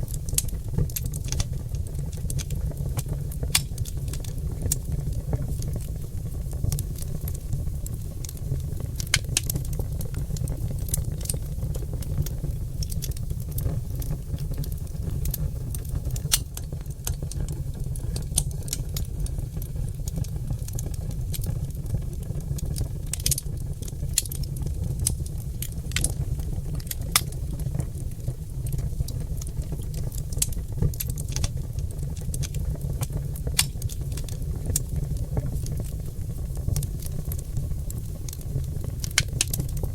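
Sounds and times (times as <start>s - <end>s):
logs crackling in fireplace: 0.0s - 39.9s
low fire rumble: 0.0s - 39.9s.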